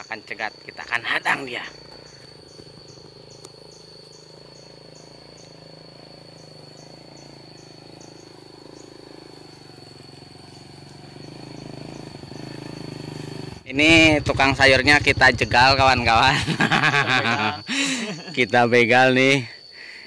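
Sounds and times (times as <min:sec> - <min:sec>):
insects whining: 0:00.0 - 0:20.0
small motorcycle engine: 0:01.4 - 0:17.7.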